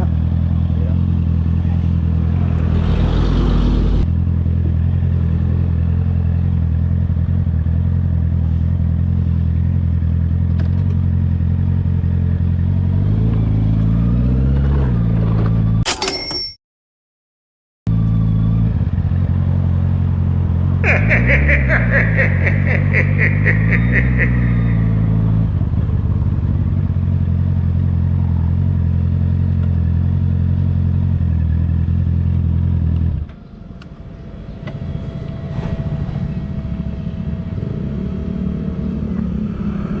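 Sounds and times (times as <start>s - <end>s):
motorcycle engine idling and revving: 0.0s - 15.8s, 17.9s - 40.0s.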